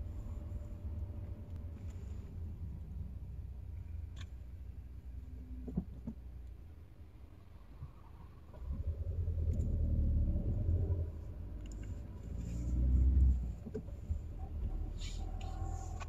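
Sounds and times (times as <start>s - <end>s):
car engine: 0.0s - 16.0s
road rumble: 0.0s - 16.0s.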